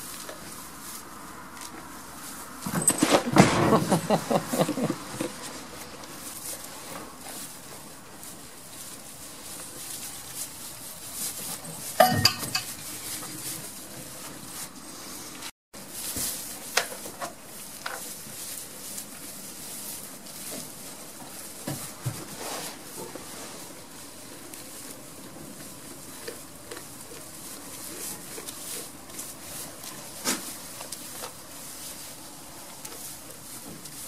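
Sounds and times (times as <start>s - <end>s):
goats rustling through straw: 0.0s - 34.0s.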